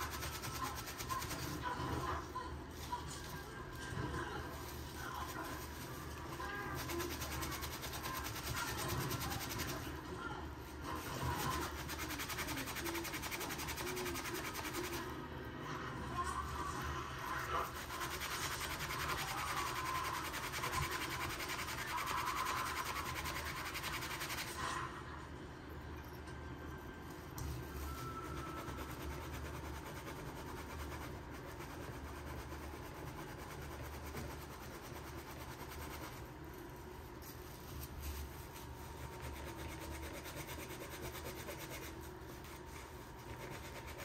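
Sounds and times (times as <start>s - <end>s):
paper towel rubbing plastic: 0.0s - 15.2s, 16.1s - 24.9s, 27.4s - 44.0s.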